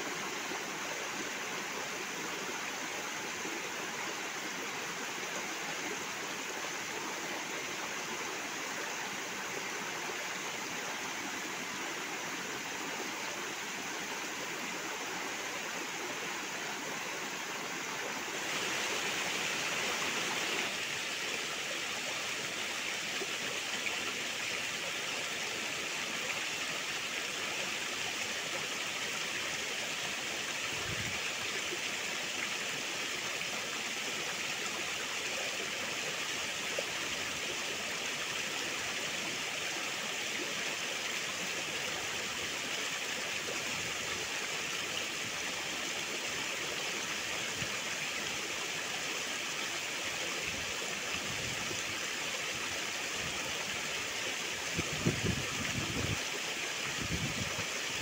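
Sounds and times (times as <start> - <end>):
stream splashing over rocks: 0.0 - 58.0.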